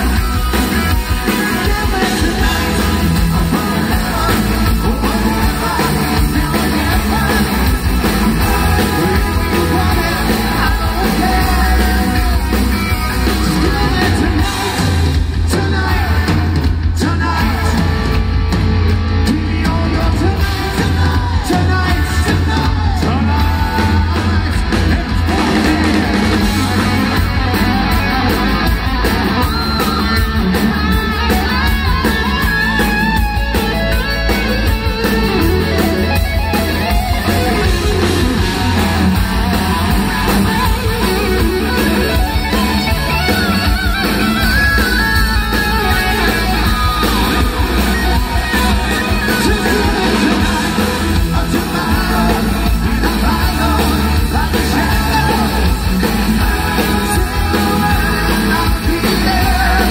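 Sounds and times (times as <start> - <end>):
hard rock band playing live: 0.0 - 59.9
man singing lead: 0.0 - 59.9.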